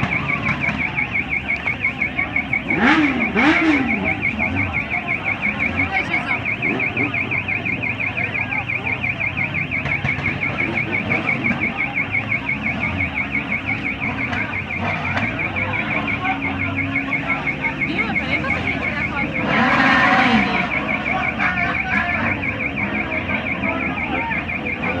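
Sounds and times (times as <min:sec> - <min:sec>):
electronic alarm siren warbling: 0:00.0 - 0:25.0
motorcycle engines idling: 0:00.0 - 0:25.0.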